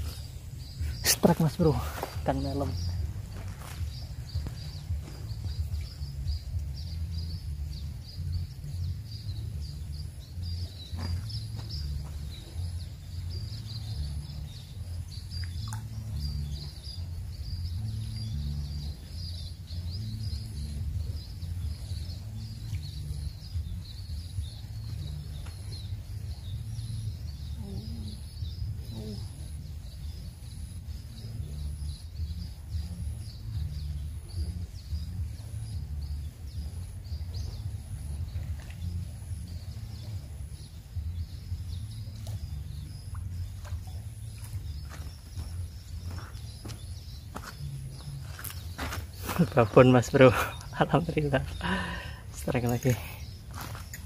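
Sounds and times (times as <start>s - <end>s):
wind rumble on microphone: 0.0s - 51.7s.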